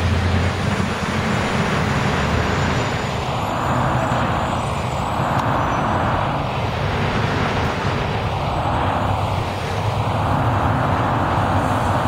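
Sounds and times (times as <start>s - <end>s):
bus passing close by: 0.0s - 12.0s
street traffic noise: 0.0s - 12.0s.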